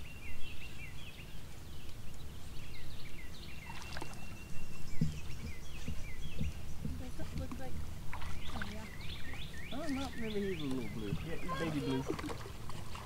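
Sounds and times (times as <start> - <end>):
birds chirping falling notes: 0.0 - 13.0
water: 0.0 - 13.0
wind: 0.0 - 13.0.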